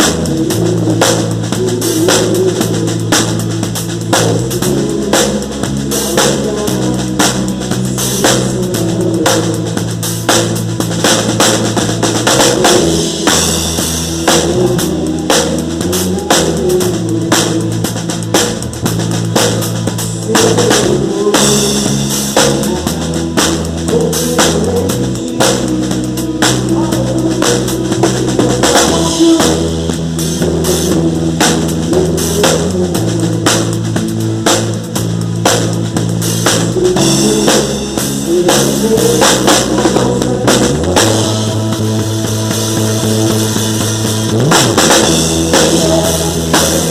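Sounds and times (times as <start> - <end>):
drum kit beat: 0.0 - 46.9
worship band playing: 0.0 - 46.9.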